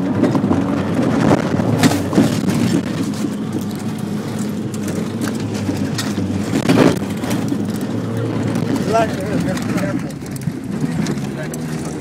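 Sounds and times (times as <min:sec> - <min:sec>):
car engine running: 0:00.0 - 0:12.0
knocks and rattles: 0:00.0 - 0:12.0
road noise: 0:00.0 - 0:12.0.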